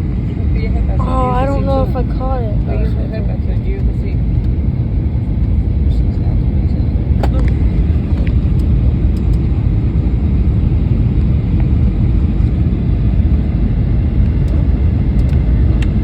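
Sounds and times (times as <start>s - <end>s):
airliner engines and airflow rumble: 0.0s - 16.0s.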